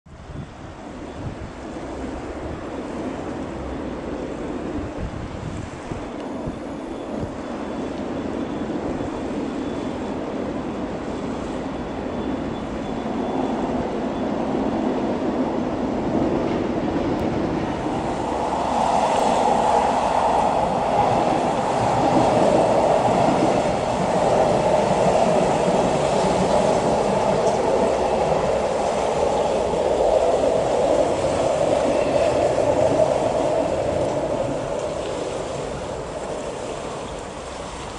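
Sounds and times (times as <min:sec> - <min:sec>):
train crossing steel bridge: 0:00.1 - 0:37.9.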